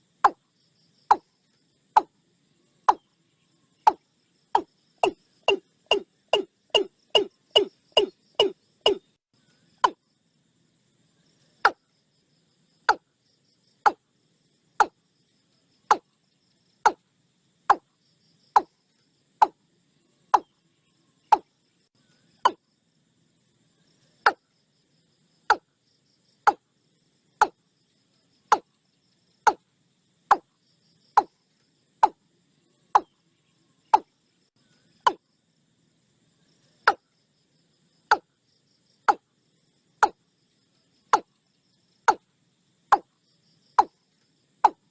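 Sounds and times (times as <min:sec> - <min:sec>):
faint insect buzz: 0:00.0 - 0:44.9.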